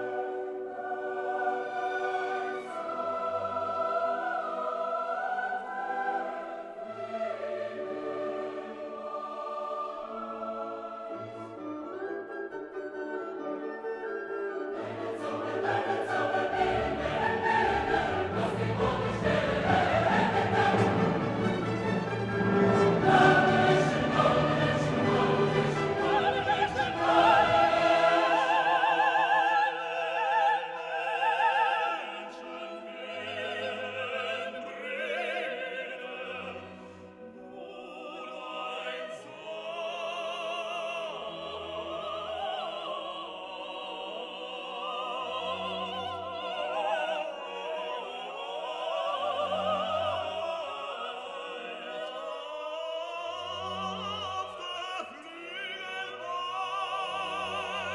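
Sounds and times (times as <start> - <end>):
operatic singing with orchestra: 0.0 - 57.9.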